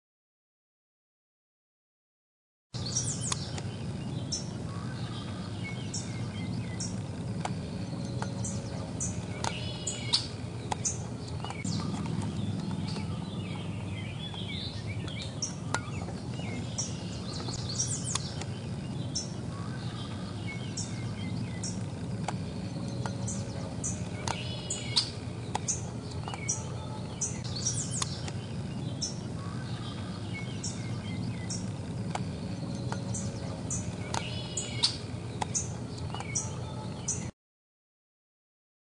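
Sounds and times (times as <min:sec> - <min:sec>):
birds chirping and trilling: 0:02.8 - 0:37.3
steady low hum: 0:02.8 - 0:37.3.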